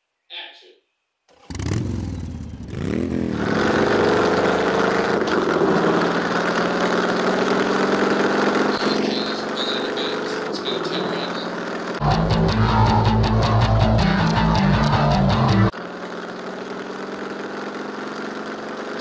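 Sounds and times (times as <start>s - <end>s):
vehicle engine starting and revving: 1.3s - 10.6s, 11.6s - 19.0s.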